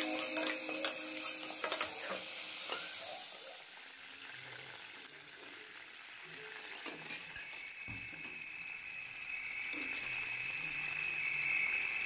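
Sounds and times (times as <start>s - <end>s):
seeds sizzling in hot oil: 0.0s - 12.0s.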